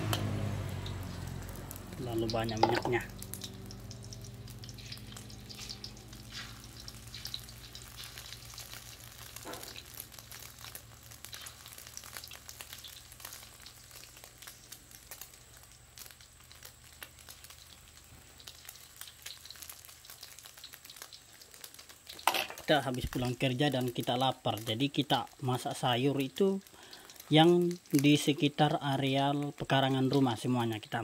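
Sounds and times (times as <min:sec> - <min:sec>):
egg sizzling in oil: 0:00.0 - 0:31.0
small crackles: 0:00.7 - 0:31.0.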